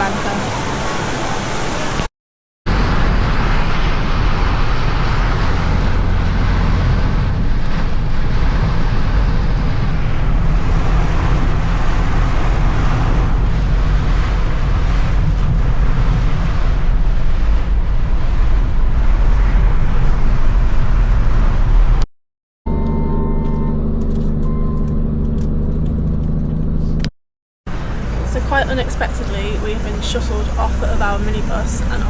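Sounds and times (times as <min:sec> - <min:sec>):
moving vehicle rumble: 0:02.7 - 0:22.1, 0:22.7 - 0:32.0.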